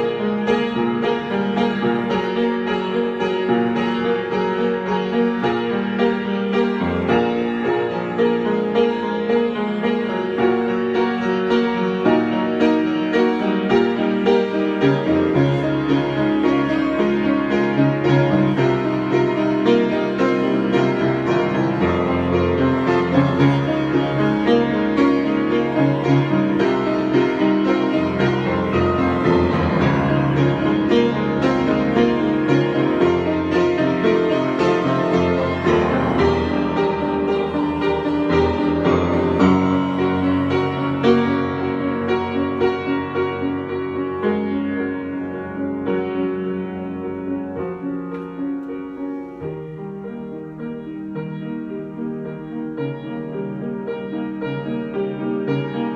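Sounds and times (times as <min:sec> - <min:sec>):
piano playing: 0:00.0 - 0:55.9.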